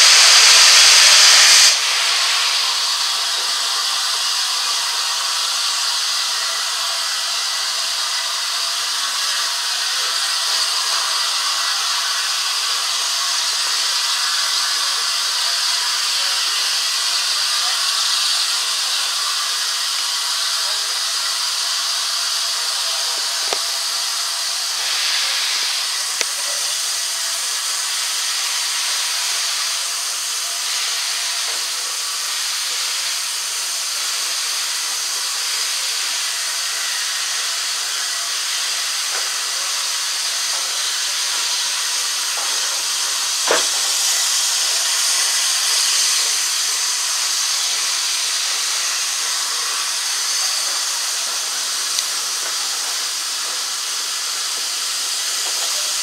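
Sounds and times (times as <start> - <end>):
steam locomotive hissing: 0.0 - 56.0.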